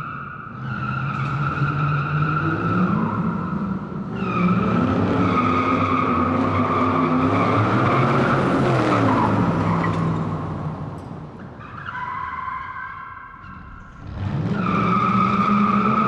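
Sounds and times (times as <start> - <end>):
car tyres squealing: 0.0 - 16.0.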